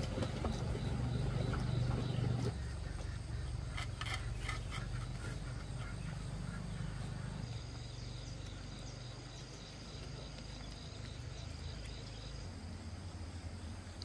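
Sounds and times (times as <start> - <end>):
pets chewing food: 0.0 - 12.6
insect chirping: 0.0 - 14.0.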